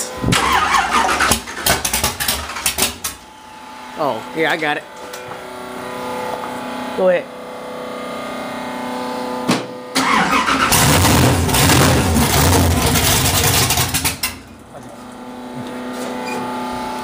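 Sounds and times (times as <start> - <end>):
loud engine running: 0.0 - 4.5, 7.4 - 17.0.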